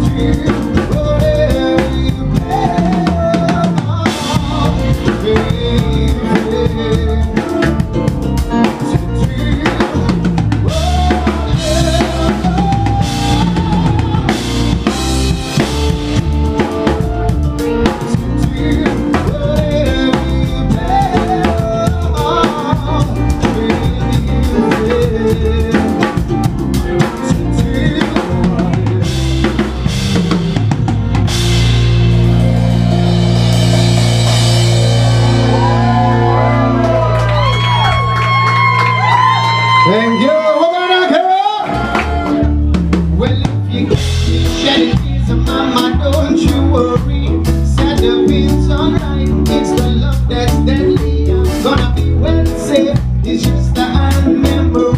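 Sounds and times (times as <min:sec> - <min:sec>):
drum kit beat: 0:00.0 - 0:40.6, 0:41.2 - 0:54.9
rock band playing: 0:00.0 - 0:54.9.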